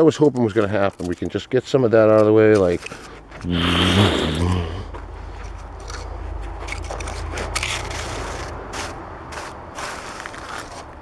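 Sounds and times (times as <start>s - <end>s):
toy bulldozer scraping snow: 0.0s - 11.0s.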